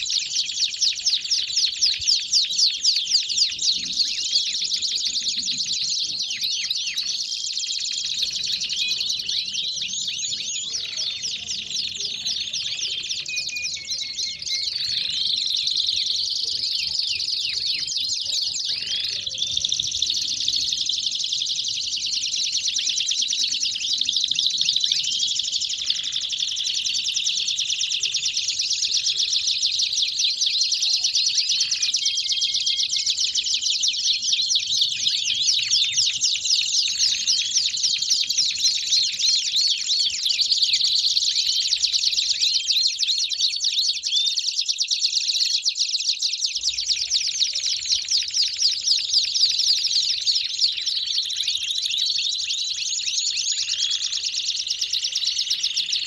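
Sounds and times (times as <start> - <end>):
canaries singing trills: 0.0 - 56.0.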